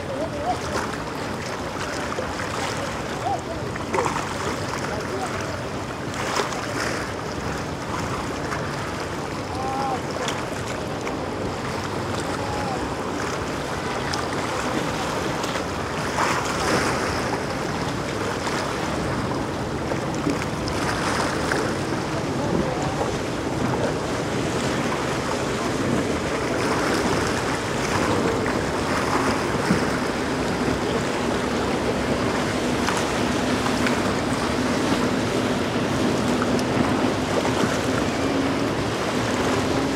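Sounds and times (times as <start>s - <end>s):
low engine hum: 0.0s - 39.9s
outboard motors running: 0.0s - 39.9s
surf washing against rocks: 0.0s - 39.9s.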